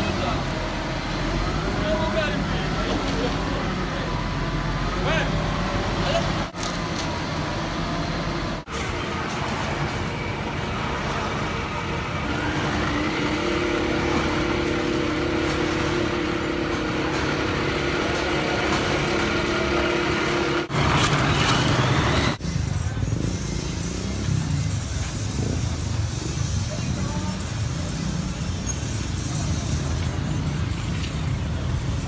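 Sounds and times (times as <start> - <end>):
vehicle engines in traffic: 0.0 - 32.0.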